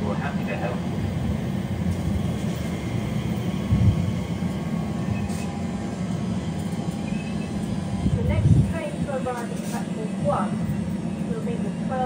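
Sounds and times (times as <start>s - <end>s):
train rumbling slowly: 0.0s - 12.0s.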